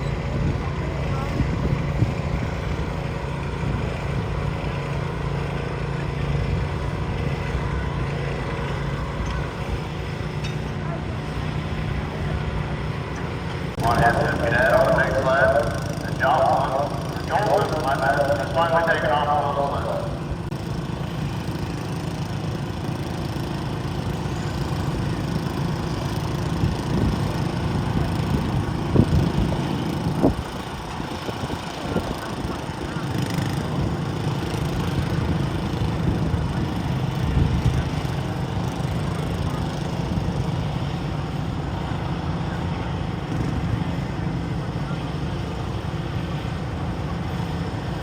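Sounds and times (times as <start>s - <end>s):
small tractor engine under load: 0.0s - 48.0s.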